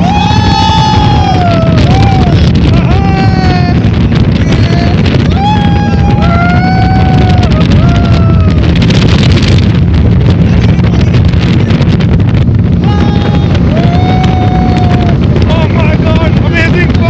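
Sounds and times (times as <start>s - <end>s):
speedboat engine rumble: 0.0s - 17.0s
wind buffeting microphone: 0.0s - 17.0s.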